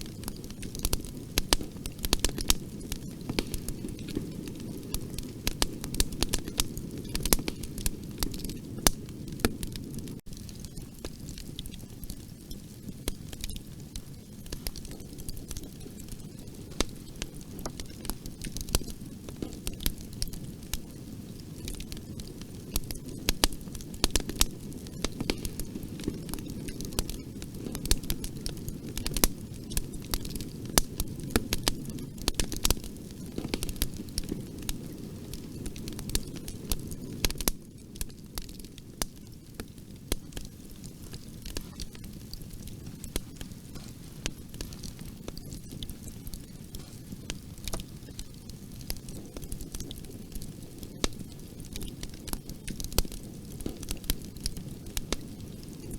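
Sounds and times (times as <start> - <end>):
burning wood crackling and popping: 0.0 - 55.9
low rumble of flames: 0.0 - 55.9.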